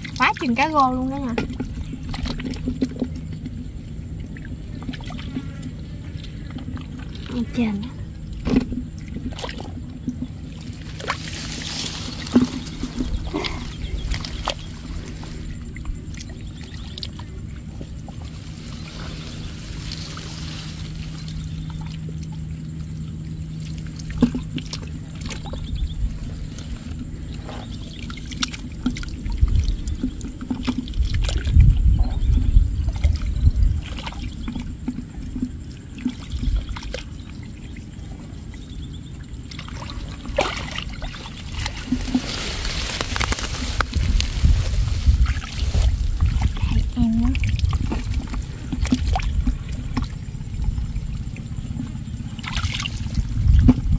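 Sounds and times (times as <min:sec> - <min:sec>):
mud sloshing and squelching: 0:00.0 - 0:53.9.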